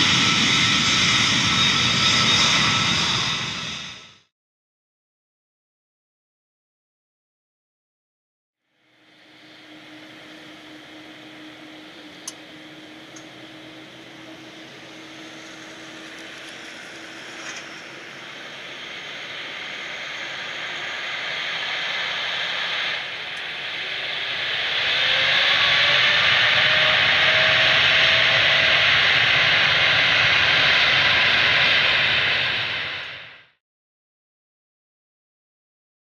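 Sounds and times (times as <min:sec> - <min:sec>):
jet airliner engines: 0:00.0 - 0:04.3, 0:08.7 - 0:33.6.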